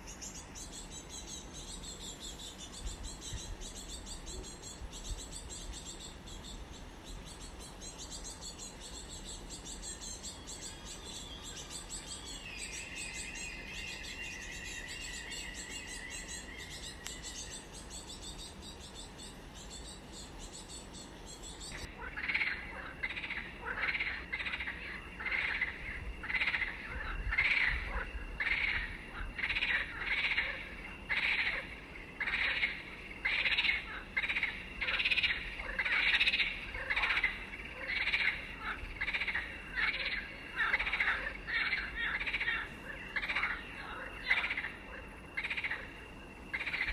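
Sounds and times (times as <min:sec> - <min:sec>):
repeated animal calls: 0:00.0 - 0:46.9.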